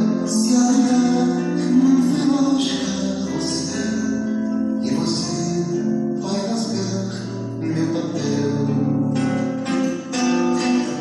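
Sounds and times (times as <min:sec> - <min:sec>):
acoustic guitar song: 0:00.0 - 0:11.0.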